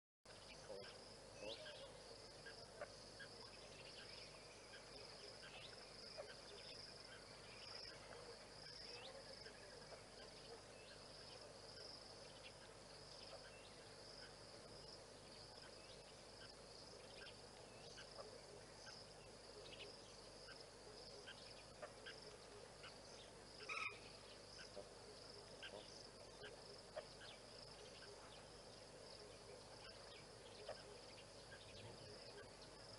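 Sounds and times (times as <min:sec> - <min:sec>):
high-pitched insect chorus: 0:00.3 - 0:32.9
insect chirps: 0:00.3 - 0:32.9.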